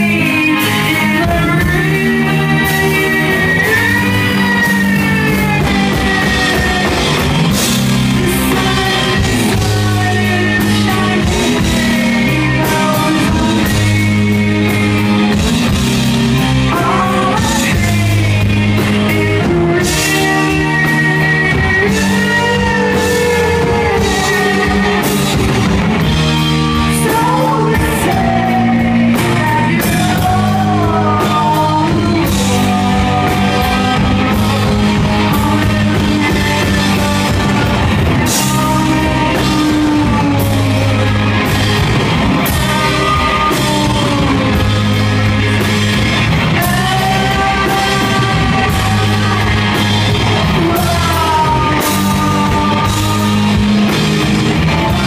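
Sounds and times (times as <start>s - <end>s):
drum kit with cymbals: 0.0s - 55.0s
electric guitars: 0.0s - 55.0s
woman singing: 0.0s - 55.0s.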